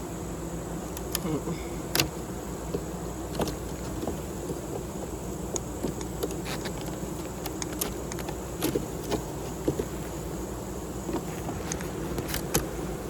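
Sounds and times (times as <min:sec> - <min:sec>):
honeybees buzzing: 0:00.0 - 0:13.0
sharp clicks and knocks on hive: 0:00.9 - 0:10.2, 0:11.0 - 0:12.9.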